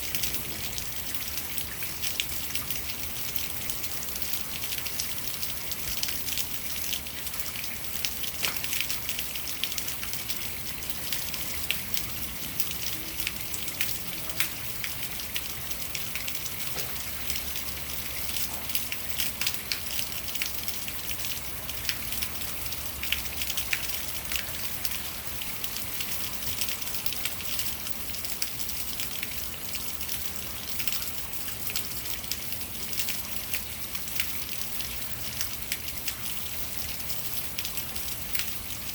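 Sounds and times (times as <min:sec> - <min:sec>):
rainwater running down rain chain: 0:00.0 - 0:38.9
sharp drips and splashes: 0:00.0 - 0:38.9.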